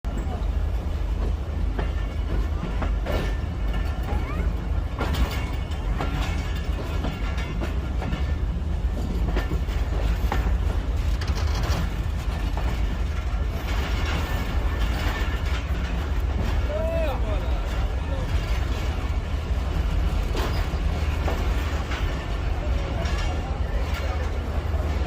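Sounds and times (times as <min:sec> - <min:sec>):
train rumbling on track: 0:00.0 - 0:25.0
wheels clanking and rattling: 0:00.1 - 0:25.0.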